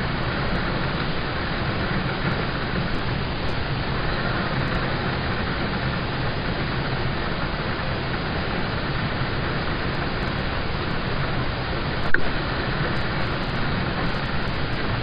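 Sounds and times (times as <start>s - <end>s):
rain on a car roof: 0.0s - 15.0s.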